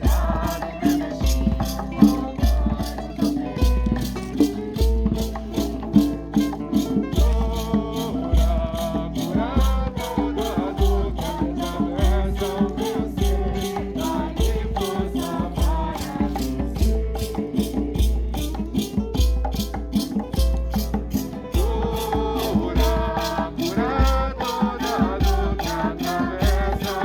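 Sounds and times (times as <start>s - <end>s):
hymn singing: 0.0s - 19.7s, 21.1s - 27.0s
maracas shaking: 0.0s - 27.0s.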